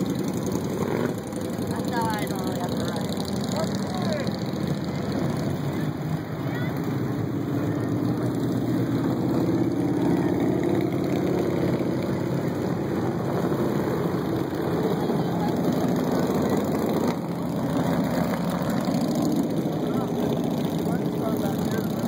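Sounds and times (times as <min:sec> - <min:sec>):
motorcycle engines rumbling: 0:00.0 - 0:22.0.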